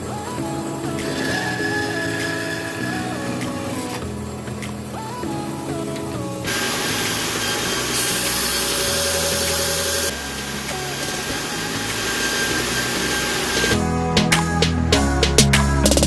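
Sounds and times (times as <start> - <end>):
harsh power tool metalworking noise: 0.0 - 13.8
background music: 0.0 - 16.0.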